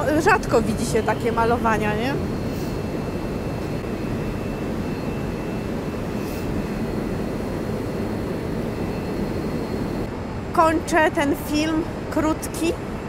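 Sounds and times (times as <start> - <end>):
faint high whine: 0.0 - 13.0
train rumbling: 0.0 - 13.0.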